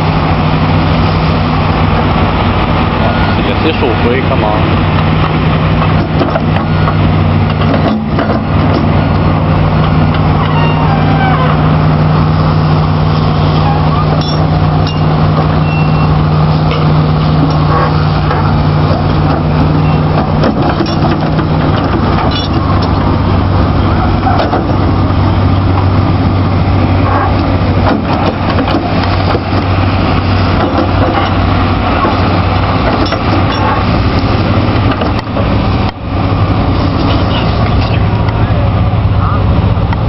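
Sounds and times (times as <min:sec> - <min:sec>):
diesel engine running under load: 0:00.0 - 0:40.0.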